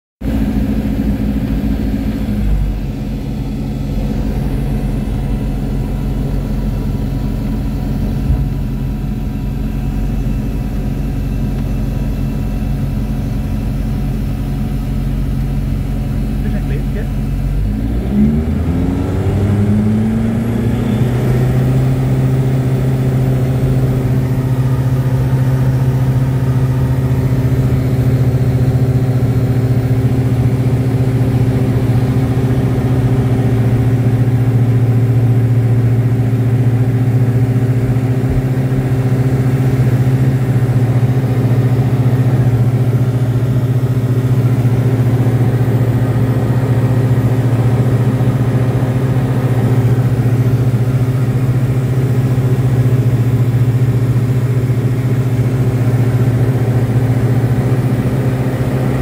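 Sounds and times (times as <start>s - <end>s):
aircraft engine and propeller drone: 0.2s - 59.0s.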